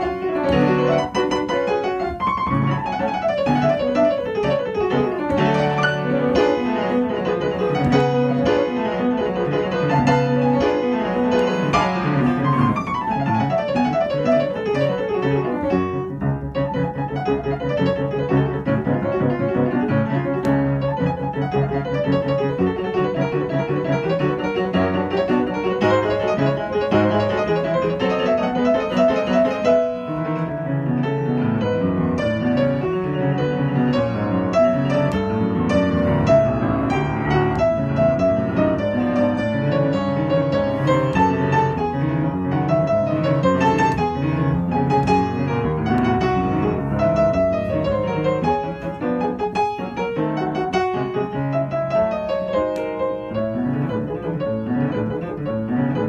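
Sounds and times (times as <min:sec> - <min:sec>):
solo classical piano: 0:00.0 - 0:56.0.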